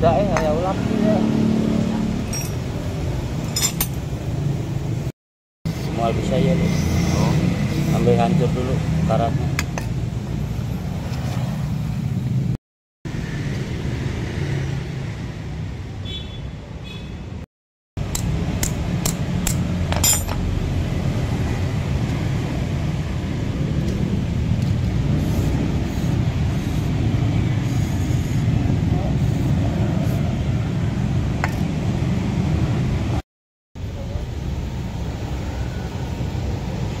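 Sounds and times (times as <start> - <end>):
road traffic rumble: 0.0 - 5.1, 5.7 - 33.2, 33.8 - 37.0.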